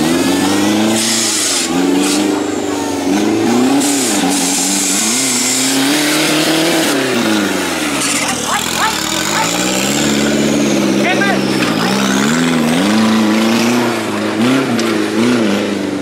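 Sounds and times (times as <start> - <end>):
buggy engine revving: 0.0 - 16.0.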